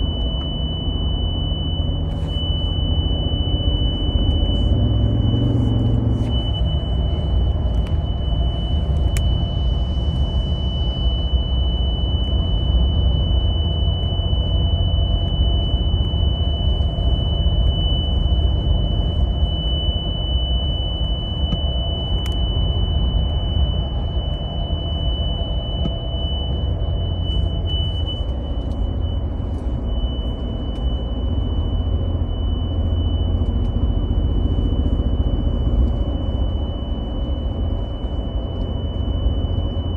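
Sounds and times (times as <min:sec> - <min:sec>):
high-pitched warning tone: 0:00.0 - 0:39.9
truck rumble at highway speed: 0:00.8 - 0:19.5, 0:22.0 - 0:39.9.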